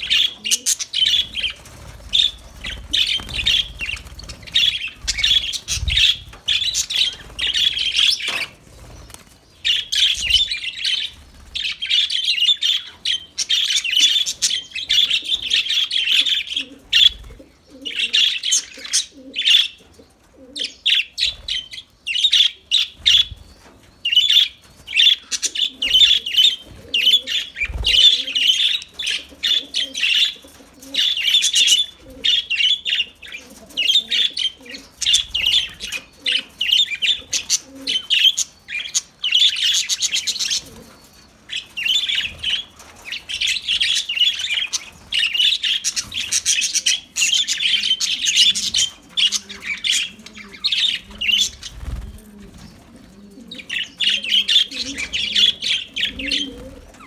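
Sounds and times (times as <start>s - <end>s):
budgerigars chattering and chirping: 0.0s - 19.8s, 20.6s - 52.8s, 53.5s - 57.0s.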